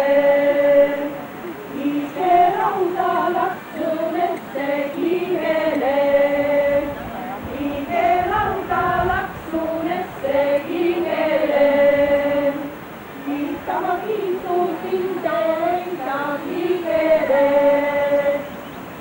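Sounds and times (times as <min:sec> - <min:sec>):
women singing unaccompanied: 0:00.0 - 0:19.0.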